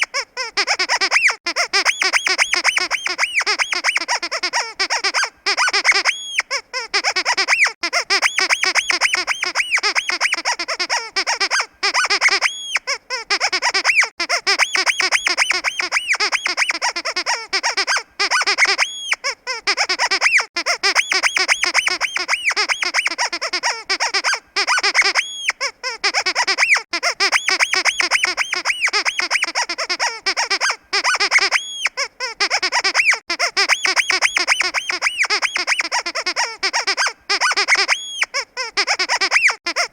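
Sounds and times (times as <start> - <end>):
squeaky dog toy squeezed: 0.0 - 39.9.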